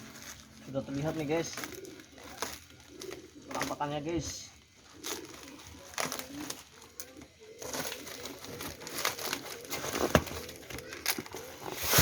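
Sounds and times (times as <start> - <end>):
packaging crinkling and tearing: 0.0 - 3.8, 4.8 - 12.0.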